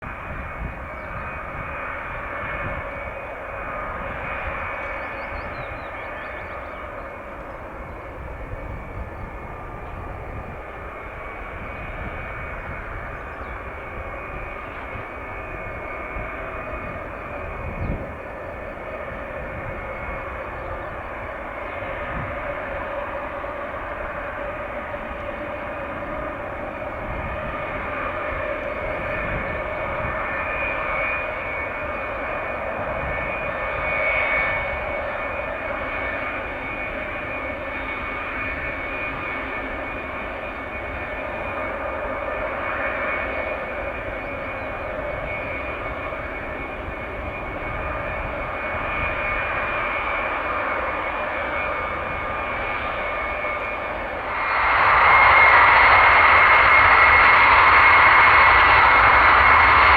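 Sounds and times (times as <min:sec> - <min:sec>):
jet engines rumbling and whining: 0:00.0 - 0:59.9.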